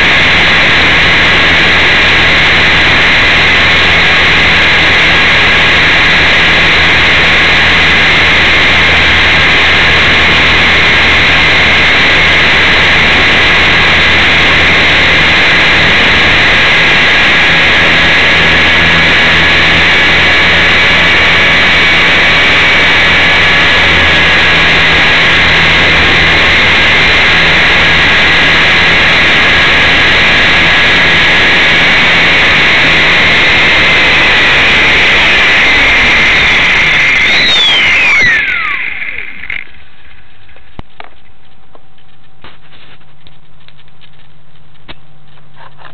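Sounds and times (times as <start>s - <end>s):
rc helicopter motor whine: 0.0s - 40.6s
rotor drone and rush: 0.0s - 41.3s.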